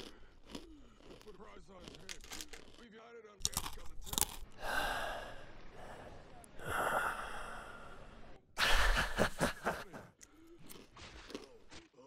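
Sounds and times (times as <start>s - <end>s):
crunching and chewing food: 0.0s - 8.0s, 9.8s - 12.0s.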